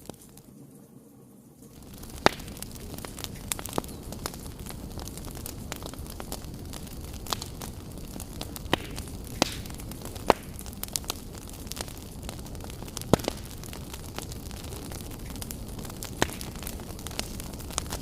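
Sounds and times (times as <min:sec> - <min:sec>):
fire crackles and pops: 0:00.0 - 0:18.0
fire low rush: 0:00.0 - 0:18.0.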